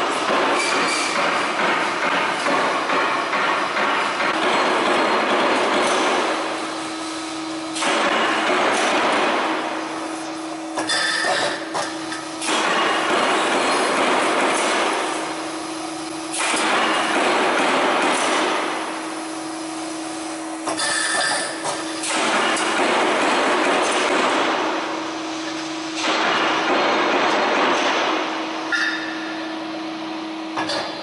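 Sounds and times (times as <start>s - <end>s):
steady machine hum: 0.0s - 31.0s.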